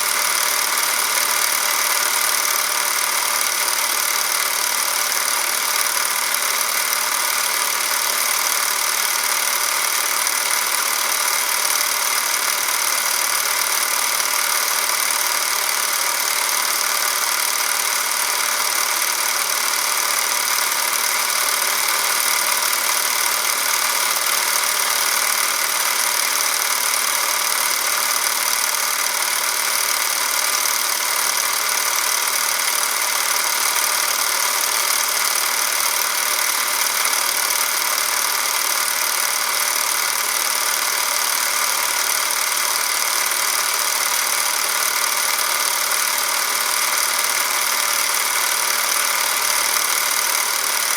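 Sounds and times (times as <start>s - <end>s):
film camera motor whirring: 0.0s - 50.9s.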